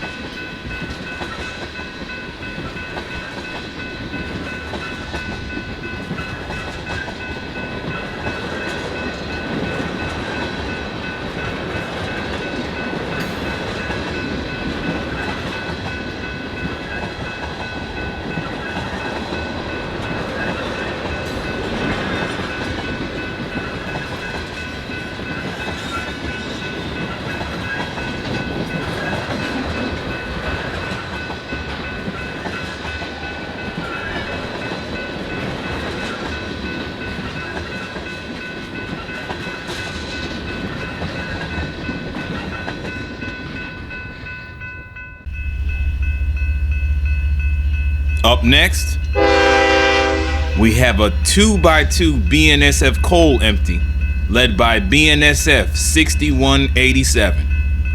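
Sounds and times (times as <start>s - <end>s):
train cars rolling on rails: 0.0s - 57.9s.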